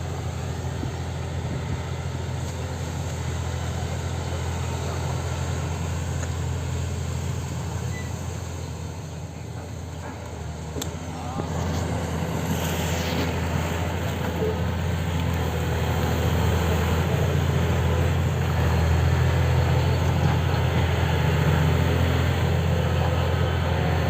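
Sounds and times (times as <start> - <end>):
excavator diesel engine droning: 0.0 - 24.0.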